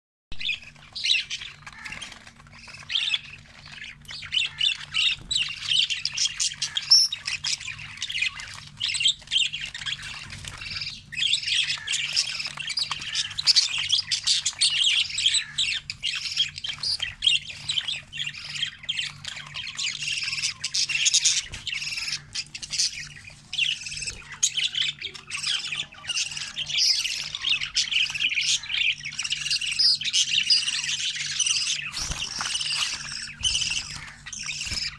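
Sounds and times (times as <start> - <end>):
budgerigars chattering and squawking: 0.4 - 34.9.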